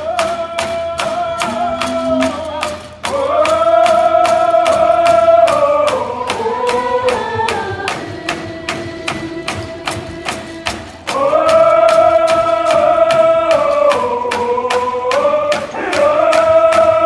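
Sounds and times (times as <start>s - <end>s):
group singing in unison: 0.0s - 17.0s
hand drums beating: 0.0s - 17.0s.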